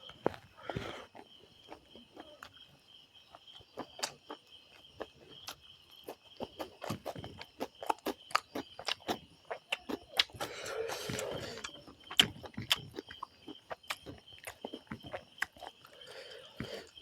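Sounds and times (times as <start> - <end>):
chewing and crunching: 0.0 - 17.0.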